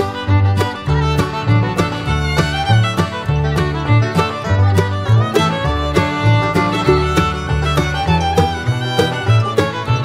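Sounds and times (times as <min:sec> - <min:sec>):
upbeat fiddle-led string music: 0:00.0 - 0:10.0.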